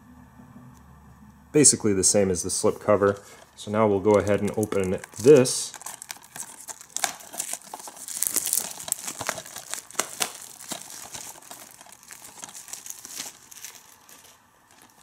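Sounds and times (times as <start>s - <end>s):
plastic shrink-wrap crinkling: 3.0s - 15.0s.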